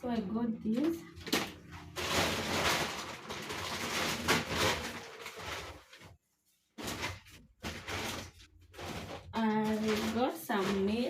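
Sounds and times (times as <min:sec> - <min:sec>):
plastic bags crinkling: 0:00.7 - 0:11.0.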